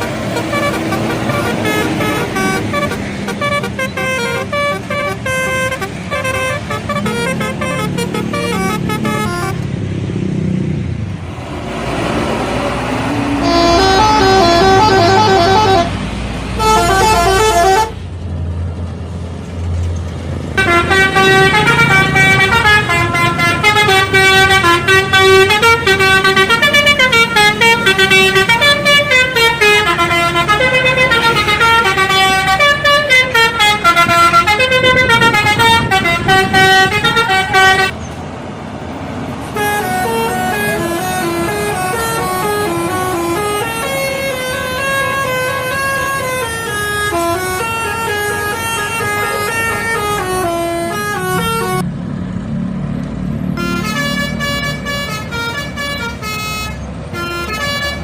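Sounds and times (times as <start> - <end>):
bus air horns playing tunes: 0.0 - 9.7, 12.9 - 18.0, 20.5 - 38.0, 39.5 - 51.8, 53.6 - 58.0.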